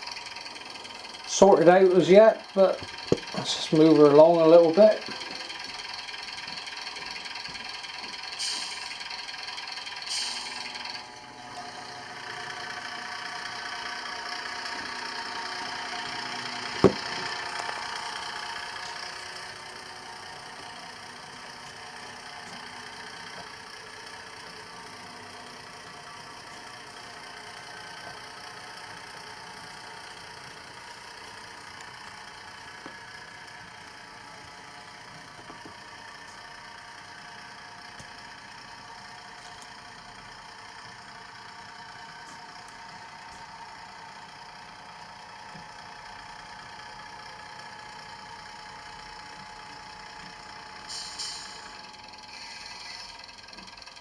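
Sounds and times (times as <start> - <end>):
diesel engine sound through small speaker: 0.0 - 54.0.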